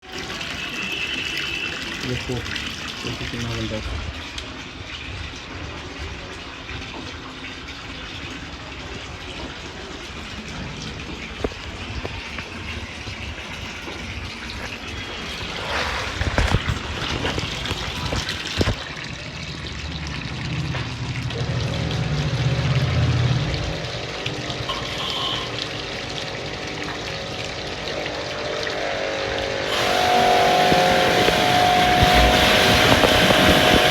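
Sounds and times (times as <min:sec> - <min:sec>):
water spraying and splashing: 0:00.0 - 0:33.9.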